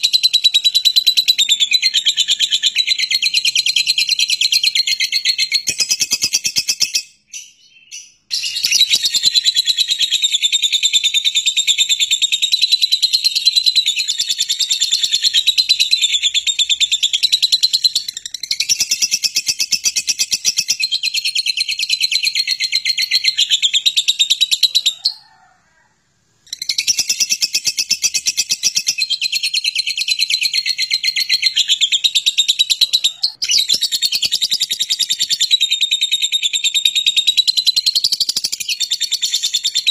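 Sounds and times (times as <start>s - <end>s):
lovebird chattering trill: 0.0s - 25.1s, 26.5s - 39.9s.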